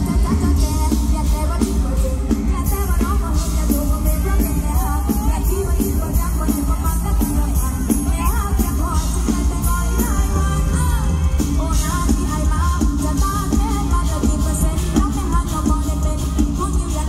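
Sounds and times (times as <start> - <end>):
band playing through a pa: 0.0 - 17.0
woman singing into a microphone: 0.0 - 17.0.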